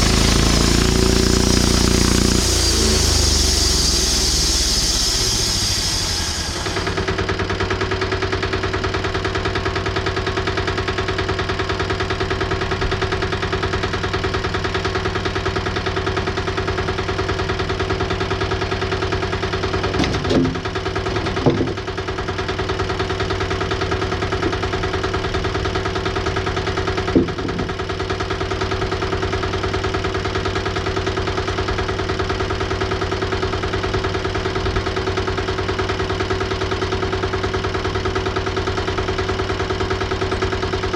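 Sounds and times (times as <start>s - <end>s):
bandsaw sawmill running: 0.0s - 40.9s.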